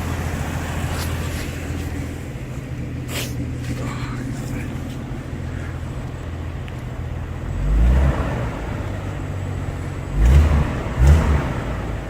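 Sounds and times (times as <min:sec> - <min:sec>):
car engine idling: 0:00.0 - 0:12.0
engine throttle blips: 0:00.0 - 0:12.0.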